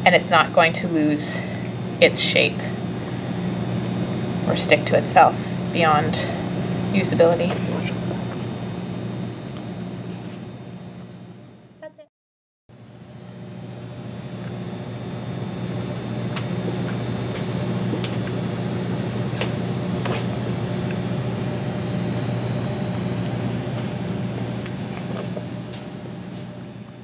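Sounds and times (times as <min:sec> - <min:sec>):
low mechanical hum: 0:00.0 - 0:12.1, 0:12.7 - 0:27.0.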